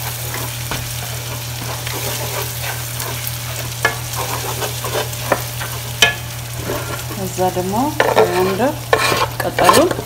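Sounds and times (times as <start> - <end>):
onions sizzling in oil: 0.0 - 10.0
wooden spoon scraping a pan: 0.0 - 10.0.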